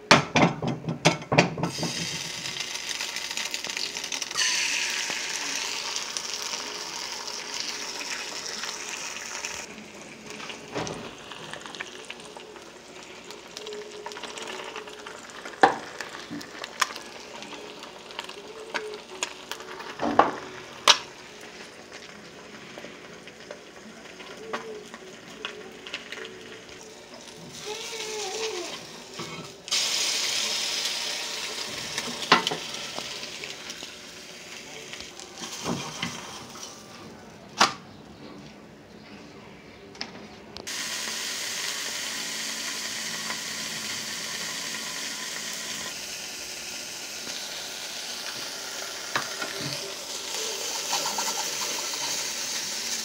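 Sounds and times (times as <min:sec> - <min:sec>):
egg sizzling in a skillet: 0:01.6 - 0:36.9, 0:40.7 - 0:53.0.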